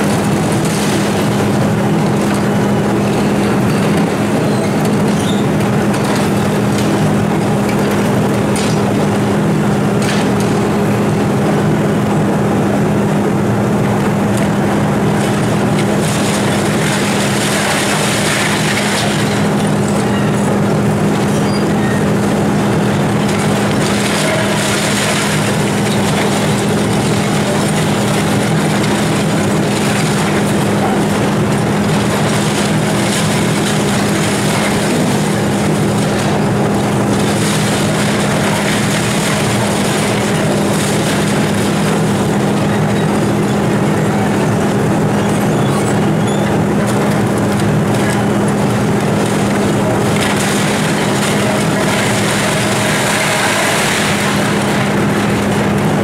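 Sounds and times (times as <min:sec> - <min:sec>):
debris crashing down: 0:00.0 - 0:09.3, 0:14.6 - 0:56.0
excavator diesel engine running: 0:00.0 - 0:56.0.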